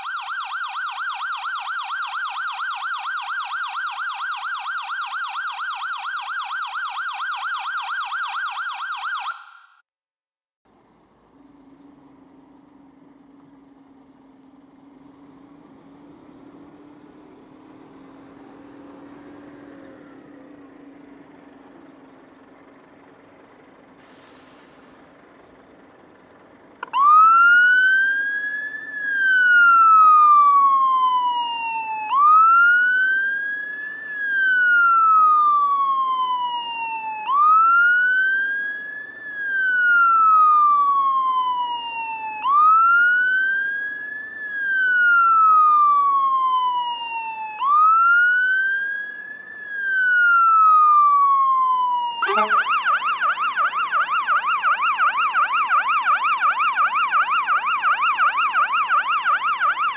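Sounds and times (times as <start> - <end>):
emergency vehicle siren wailing: 0.0 - 9.8, 11.5 - 25.7, 26.6 - 59.9.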